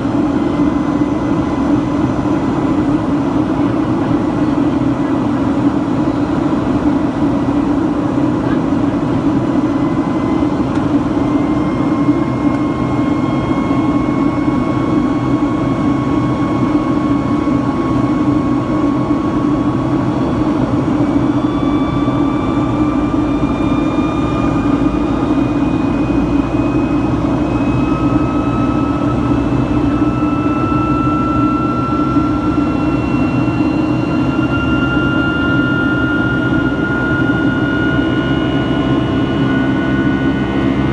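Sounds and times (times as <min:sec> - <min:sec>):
jet engine roar in cabin: 0:00.0 - 0:40.9.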